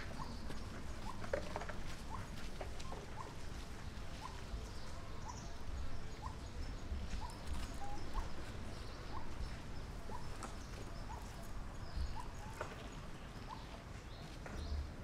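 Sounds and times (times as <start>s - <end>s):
animal chirping: 0.0s - 12.8s, 13.4s - 13.8s.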